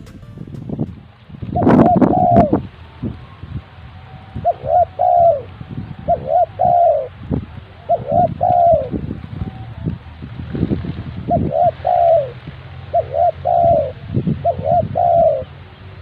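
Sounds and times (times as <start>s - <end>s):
dove cooing: 1.5s - 10.2s, 11.2s - 15.7s.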